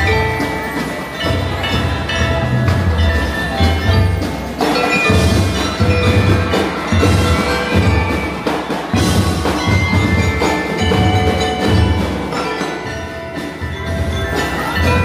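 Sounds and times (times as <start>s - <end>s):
cymbals: 0.0s - 15.0s
marimbas playing melody: 0.0s - 15.0s
snare drums: 0.0s - 15.0s.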